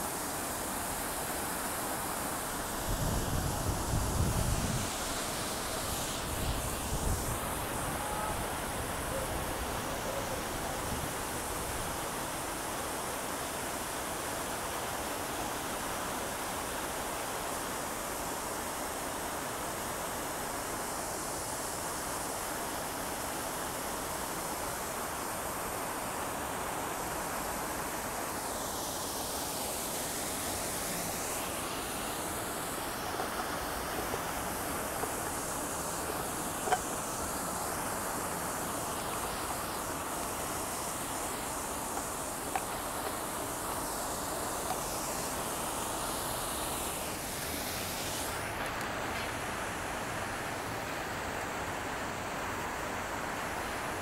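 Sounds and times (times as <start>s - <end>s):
fountain water jets splashing: 0.0s - 54.0s.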